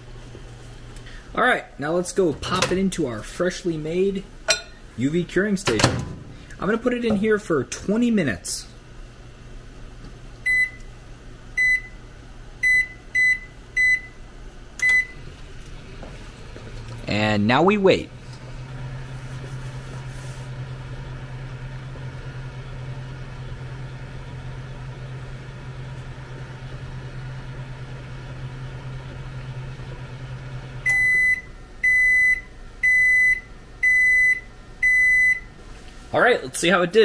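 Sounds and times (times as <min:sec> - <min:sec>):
microwave humming: 0:00.0 - 0:37.0.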